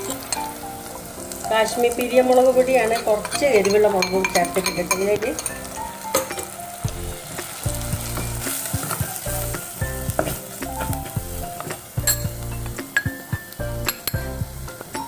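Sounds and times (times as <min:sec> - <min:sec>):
food sizzling in oil: 0:00.0 - 0:15.0
ladle clicking and scraping pot: 0:01.4 - 0:15.0.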